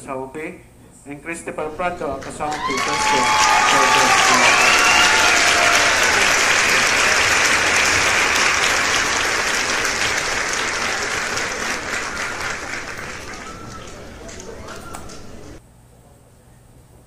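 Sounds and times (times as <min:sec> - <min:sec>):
small group applauding: 0:01.7 - 0:15.6.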